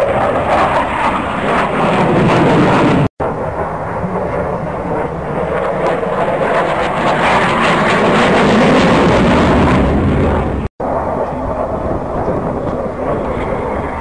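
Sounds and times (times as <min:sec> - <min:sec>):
jet engine roar flying past: 0:00.0 - 0:14.0.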